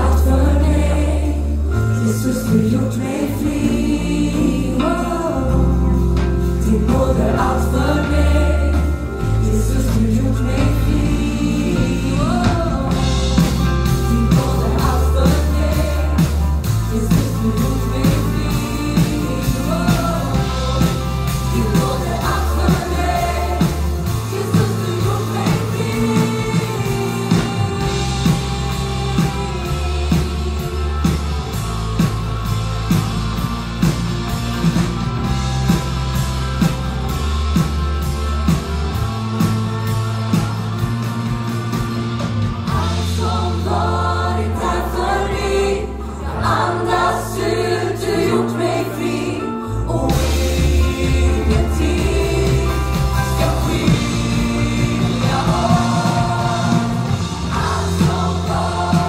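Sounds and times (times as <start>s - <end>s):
people singing: 0.0s - 32.2s, 40.3s - 59.0s
worship band playing: 0.0s - 59.0s
drums steady beat: 5.9s - 44.4s, 50.1s - 59.0s.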